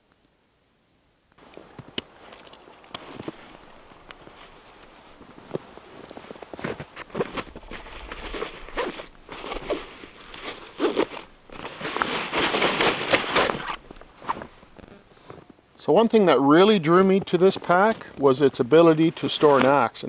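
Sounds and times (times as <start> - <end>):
rucksack fabric rustling: 1.6 - 15.6, 16.6 - 20.0.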